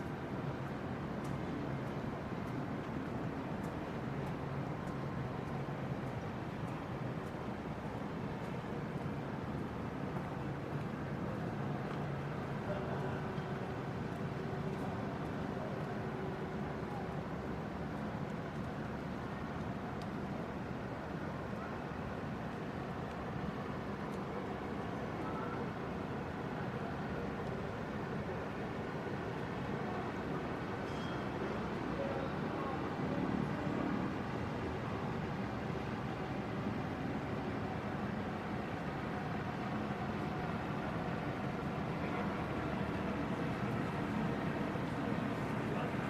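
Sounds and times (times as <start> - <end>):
low city rumble: 0.0 - 46.0.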